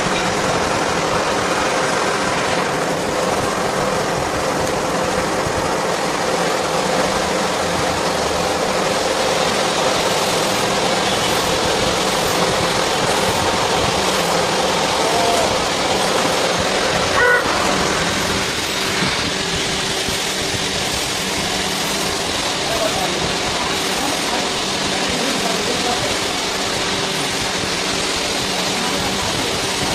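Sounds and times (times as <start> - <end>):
coolant spray hissing: 0.0 - 29.9
machine running hum: 0.0 - 29.9.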